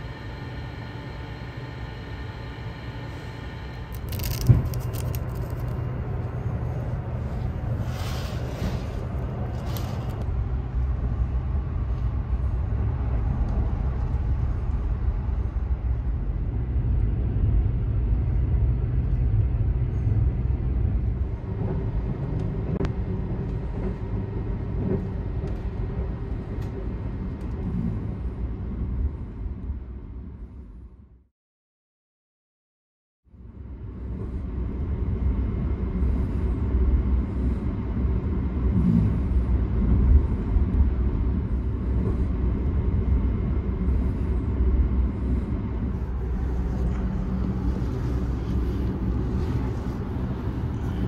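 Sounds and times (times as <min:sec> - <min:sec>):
train rumbling: 0:00.0 - 0:31.0, 0:33.4 - 0:51.0.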